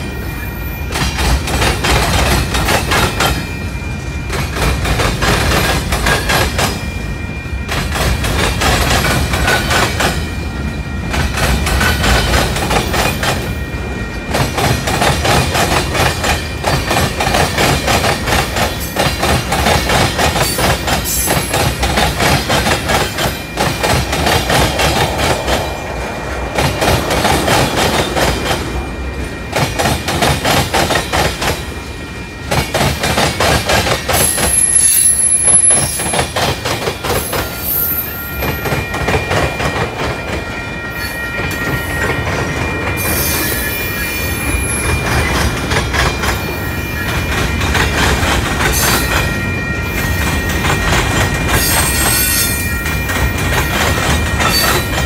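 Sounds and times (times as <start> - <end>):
train wheels clattering: 0.8 - 6.9, 7.7 - 40.6, 44.4 - 55.0.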